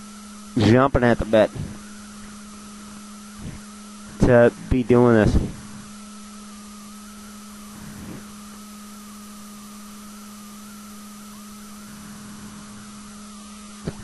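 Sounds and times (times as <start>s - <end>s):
electrical hum: 0.0s - 14.0s
faint wavering high whine: 0.0s - 14.0s.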